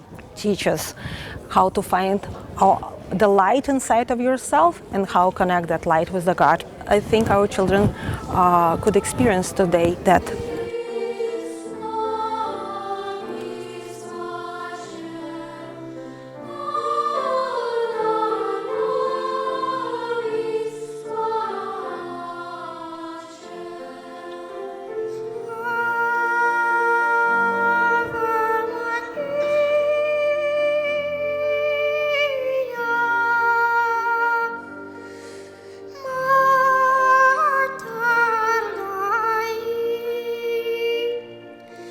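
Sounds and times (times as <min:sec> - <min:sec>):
choir singing long held notes: 0:07.2 - 0:41.9.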